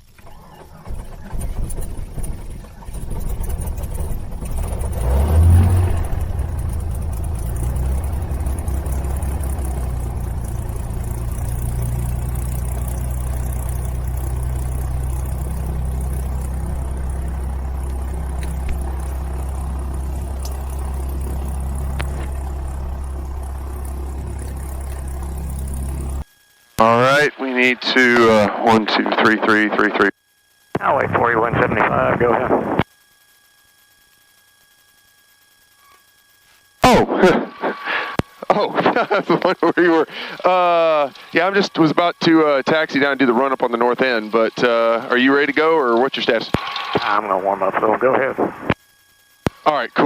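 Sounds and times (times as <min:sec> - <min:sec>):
piston aircraft engine starting: 0:00.0 - 0:29.1, 0:36.8 - 0:50.0.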